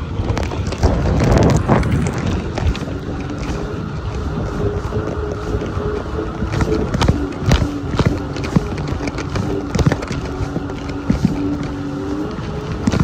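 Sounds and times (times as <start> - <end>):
jet ski engine running: 0.0 - 13.0
water: 0.0 - 13.0
wind buffeting microphone: 0.0 - 13.0.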